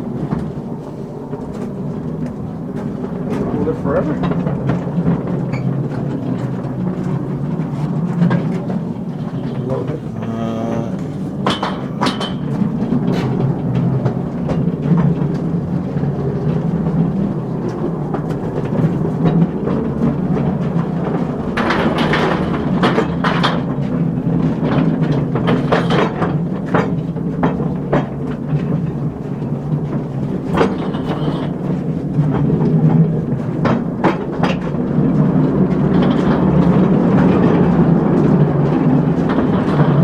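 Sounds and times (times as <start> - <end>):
mine car rolling on rails: 0.0 - 10.3, 11.2 - 40.0
wheels clanking and knocking: 0.0 - 10.4, 11.0 - 40.0.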